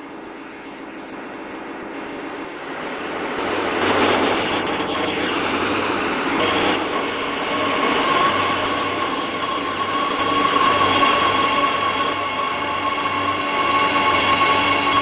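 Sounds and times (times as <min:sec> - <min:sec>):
high steady whine: 0:00.0 - 0:15.0
underground train rumbling: 0:00.0 - 0:15.0.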